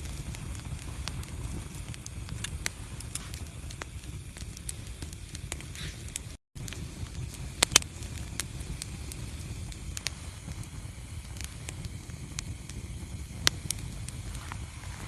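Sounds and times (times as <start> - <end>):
sharp pops of burning wood: 0.0 - 15.0
wood fire crackling: 0.0 - 15.0.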